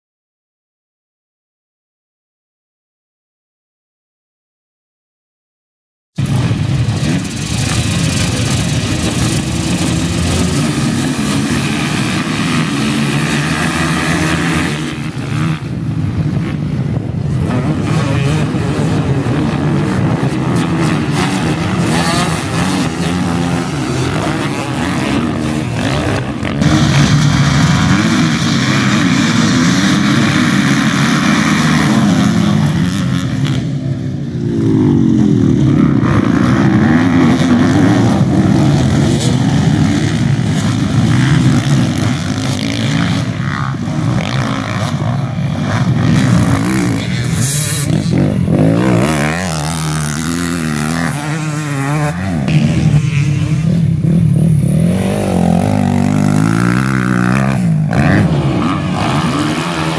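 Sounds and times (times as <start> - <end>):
dirt bike engines revving: 6.2 - 59.9.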